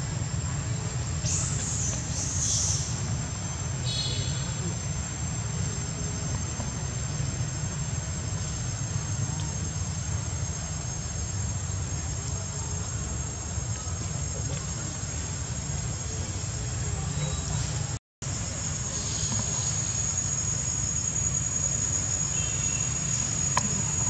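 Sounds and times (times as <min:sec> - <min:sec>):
high-pitched insect buzz: 0:01.1 - 0:08.7, 0:09.3 - 0:24.0.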